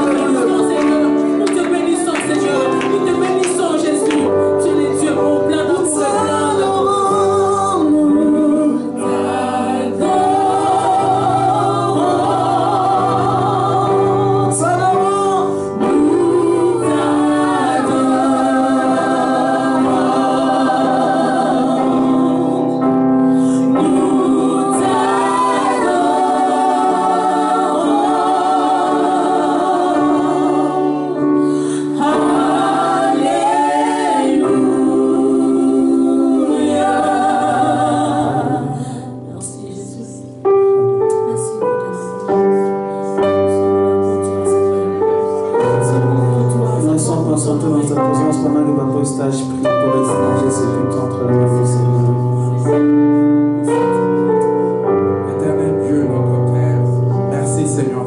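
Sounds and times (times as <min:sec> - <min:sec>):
voices singing gospel: 0:00.0 - 0:40.5, 0:43.0 - 0:58.0
held instrumental chords: 0:00.0 - 0:58.0.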